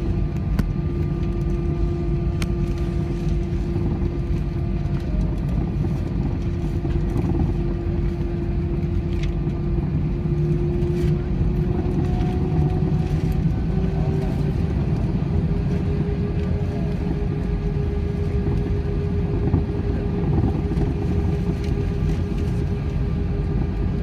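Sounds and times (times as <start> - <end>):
jet engines running steadily: 0.0 - 24.0.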